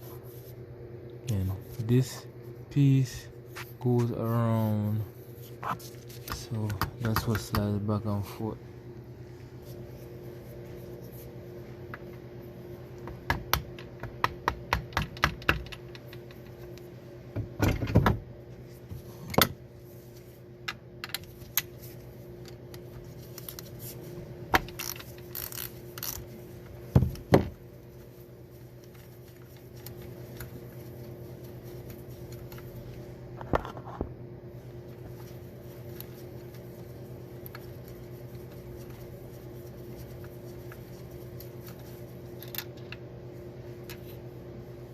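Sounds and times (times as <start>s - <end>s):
steady background hum: 0.0s - 44.9s.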